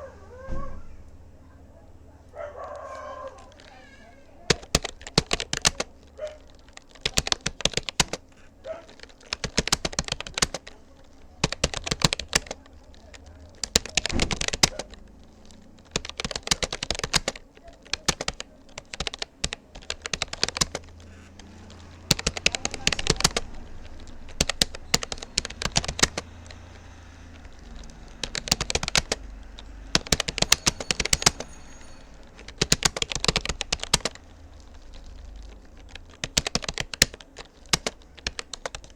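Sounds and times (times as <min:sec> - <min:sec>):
computer keyboard typing: 0:02.4 - 0:38.9.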